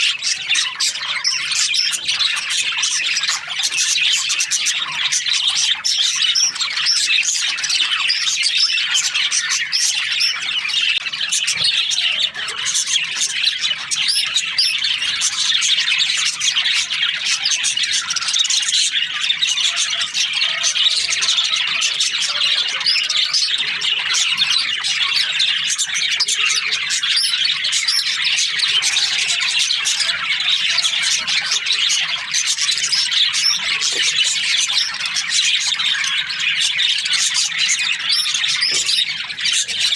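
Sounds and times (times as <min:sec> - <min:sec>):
bird squawks: 0:00.0 - 0:39.9
budgerigars chirping and chattering: 0:00.0 - 0:39.9.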